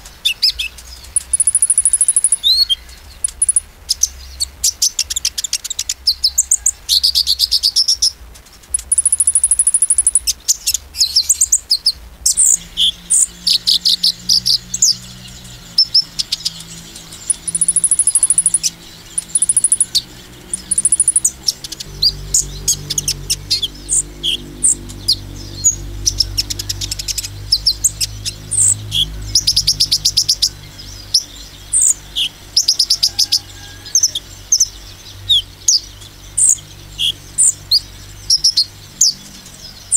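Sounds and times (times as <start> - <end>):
sunbird chirps and trills: 0.0 - 39.9.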